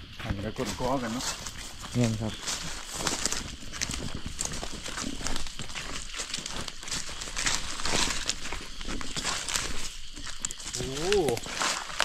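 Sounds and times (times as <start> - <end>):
leaf litter crunching: 0.9 - 12.0.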